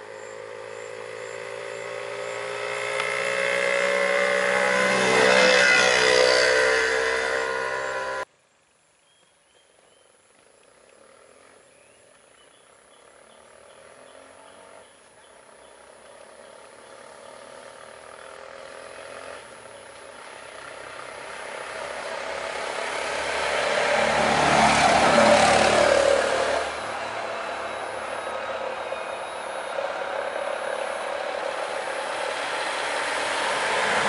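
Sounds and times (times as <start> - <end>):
vehicle engine and tyre noise: 0.0 - 8.3, 9.6 - 34.0.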